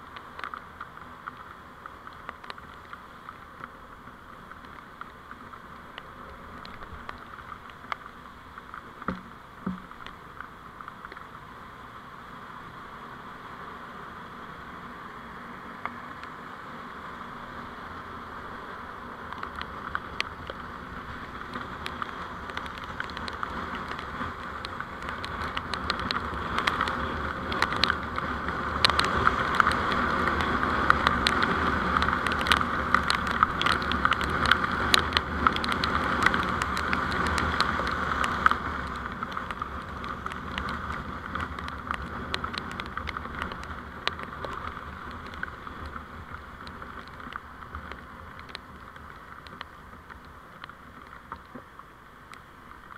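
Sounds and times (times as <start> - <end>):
small scattered ticks: 0.0 - 11.4, 18.6 - 52.9
vehicle road and wind noise: 0.0 - 52.9.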